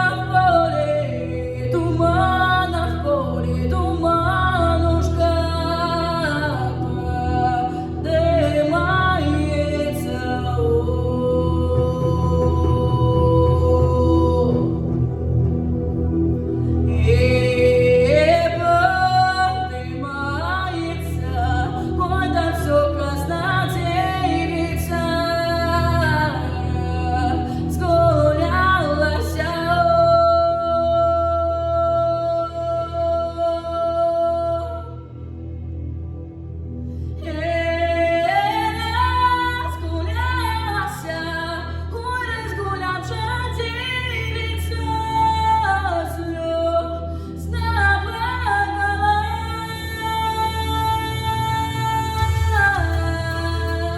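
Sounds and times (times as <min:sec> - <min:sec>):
woman singing: 0:00.0 - 0:15.2, 0:16.8 - 0:35.1, 0:37.2 - 0:53.9
instrumental backing track with bass: 0:00.0 - 0:46.4.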